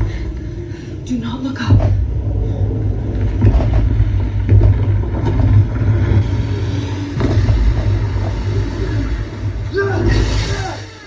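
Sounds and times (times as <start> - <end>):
deep bass rumble: 0.0 - 10.6
scattered hits: 1.5 - 11.0.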